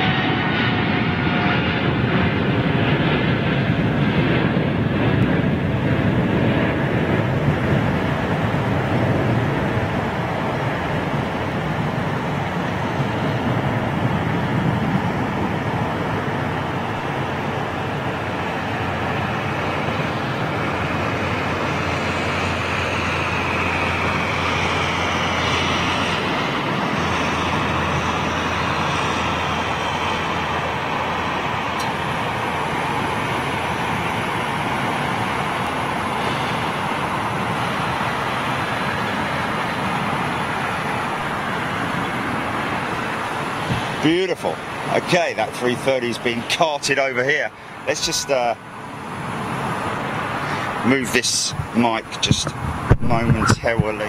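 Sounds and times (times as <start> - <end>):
high engine whine: 0.0 - 54.0
jet engines roaring: 0.0 - 54.0.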